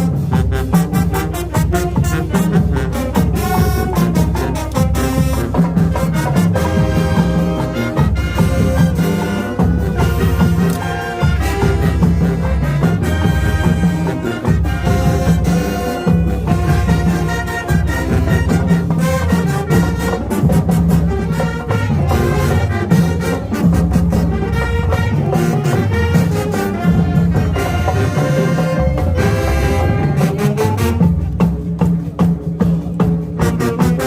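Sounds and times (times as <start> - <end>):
drums: 0.0 - 34.0
marching band brass: 0.0 - 34.0.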